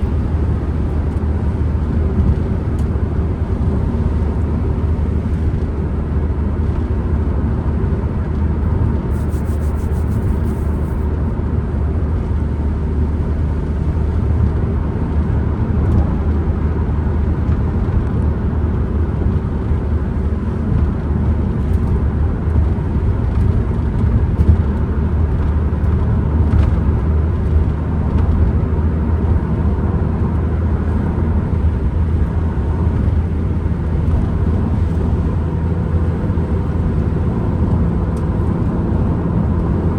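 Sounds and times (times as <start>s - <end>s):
road rumble: 0.0s - 39.9s
van engine drone: 0.0s - 39.9s.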